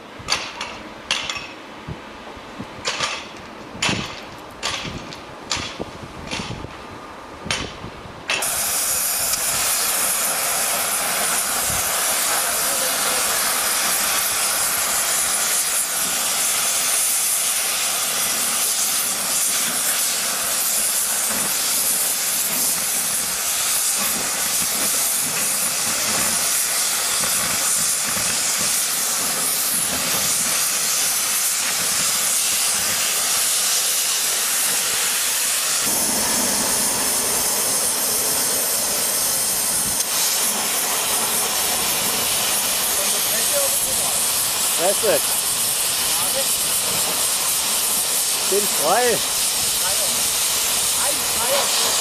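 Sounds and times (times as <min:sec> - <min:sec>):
cutting torch hissing: 0:08.3 - 0:52.0.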